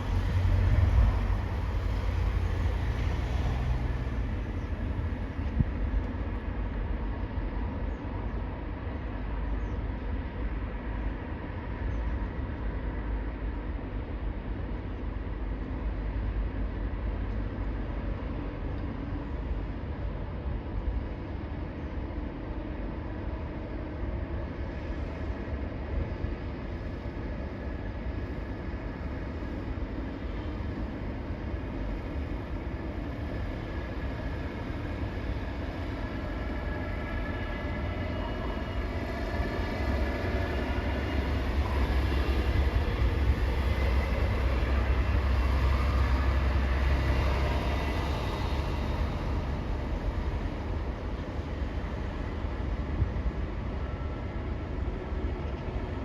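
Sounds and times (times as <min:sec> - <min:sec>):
heavy vehicle engines rumbling: 0:00.0 - 0:11.4, 0:14.6 - 0:56.0.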